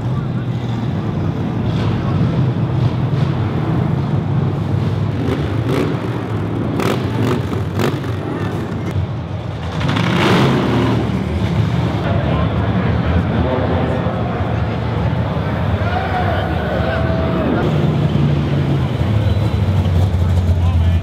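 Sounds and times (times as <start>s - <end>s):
car engines rumbling: 0.0s - 21.0s.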